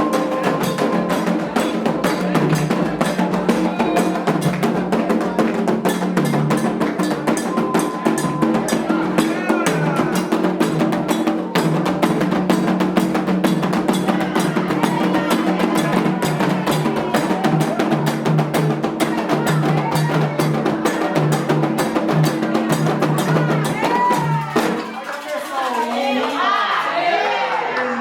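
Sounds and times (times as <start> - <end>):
fast hand drumming: 0.0 - 25.0.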